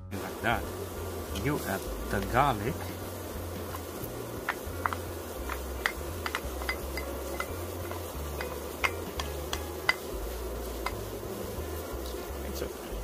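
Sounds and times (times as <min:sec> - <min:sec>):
pork sizzling in pan: 0:00.2 - 0:13.0.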